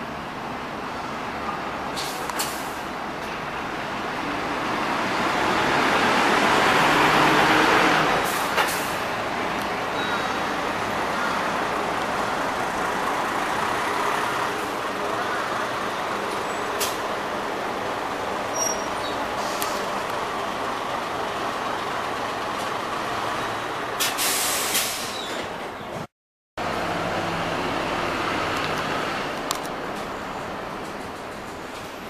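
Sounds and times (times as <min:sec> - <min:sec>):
buses driving past: 0:00.0 - 0:32.0.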